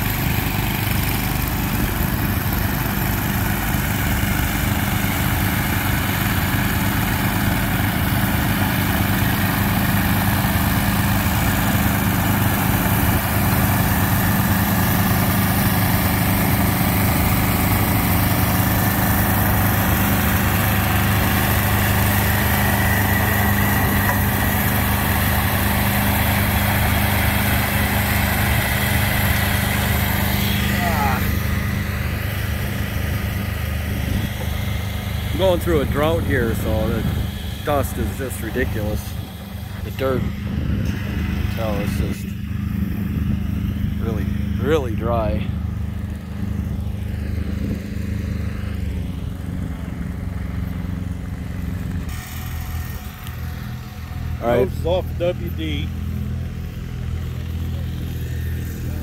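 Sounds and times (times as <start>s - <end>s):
garden tractor engines under load: 0.0s - 59.0s.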